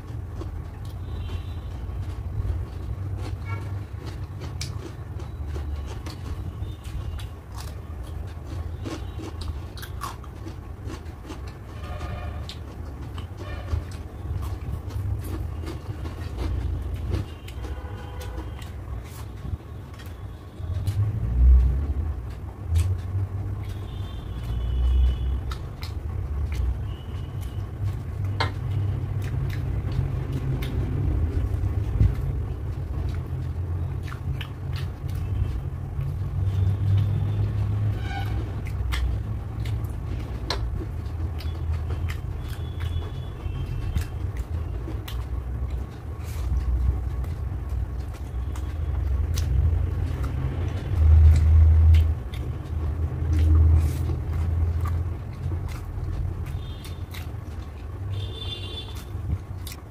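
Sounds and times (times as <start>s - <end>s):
wet chewing and mixing food: 0.0s - 59.9s.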